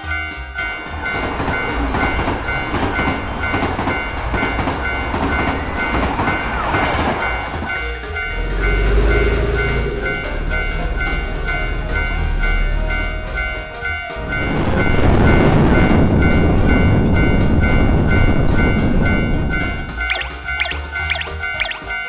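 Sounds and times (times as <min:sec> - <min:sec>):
deep steady train hum: 0:00.0 - 0:22.0
passing train rumble and clatter: 0:00.0 - 0:22.0
railroad crossing bell ringing: 0:00.0 - 0:22.0.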